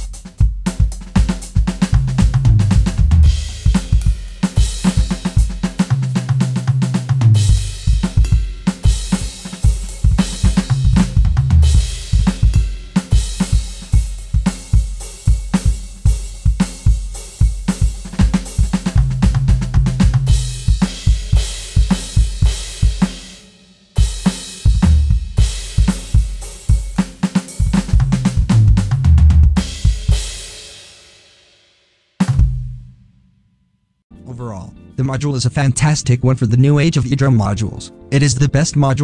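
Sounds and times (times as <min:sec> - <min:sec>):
electronic drum kit groove: 0:00.0 - 0:30.8, 0:32.2 - 0:33.0.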